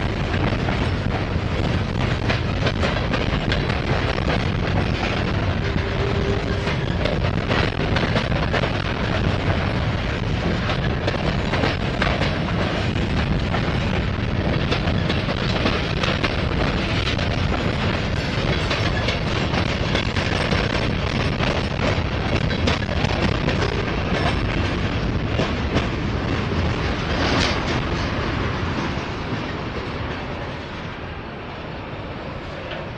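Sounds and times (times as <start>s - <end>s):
wheels clicking over rail joints: 0.0s - 30.6s
train wheels rumbling on rail: 0.0s - 32.9s.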